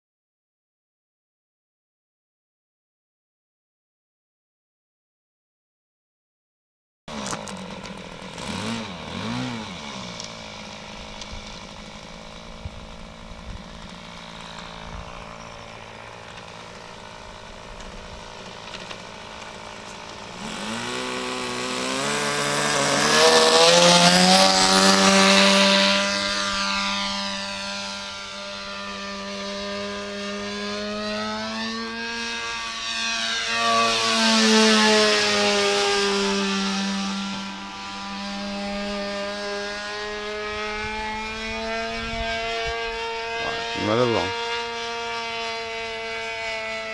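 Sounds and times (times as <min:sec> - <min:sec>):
model airplane engine: 0:07.1 - 0:46.9.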